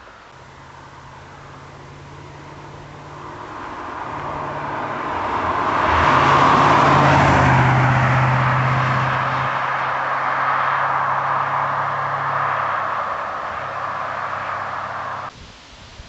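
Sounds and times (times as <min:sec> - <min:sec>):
car passing with deep exhaust: 0:00.2 - 0:15.3.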